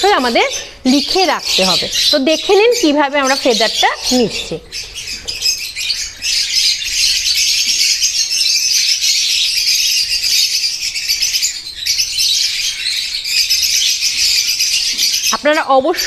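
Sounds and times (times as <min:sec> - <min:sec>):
lovebirds chattering: 0:00.0 - 0:16.0.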